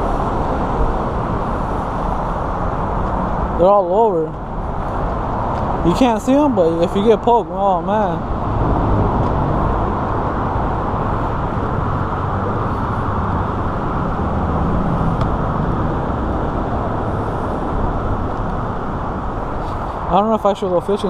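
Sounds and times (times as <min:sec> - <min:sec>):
motor traffic road noise: 0:00.0 - 0:21.0.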